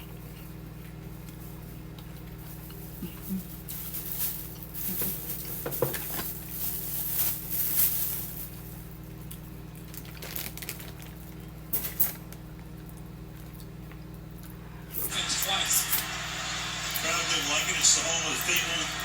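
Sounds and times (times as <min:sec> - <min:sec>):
steady low hum: 0:00.0 - 0:10.0, 0:11.0 - 0:19.0.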